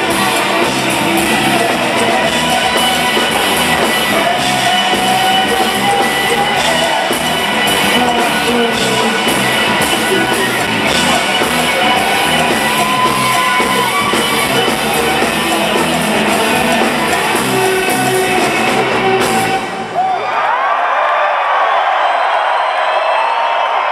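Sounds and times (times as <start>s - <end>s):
live rock band playing: 0.0s - 20.0s
crowd cheering and whooping: 0.0s - 23.9s.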